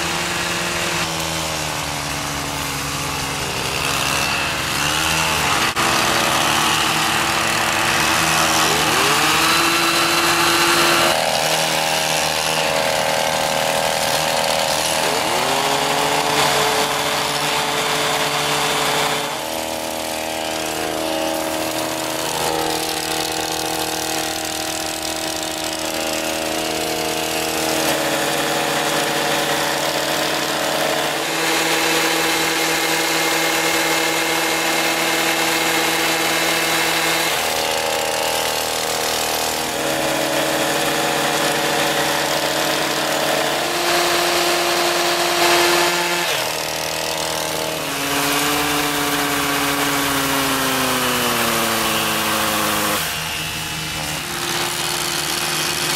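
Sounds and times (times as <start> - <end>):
olive harvester engines running: 0.0 - 55.9.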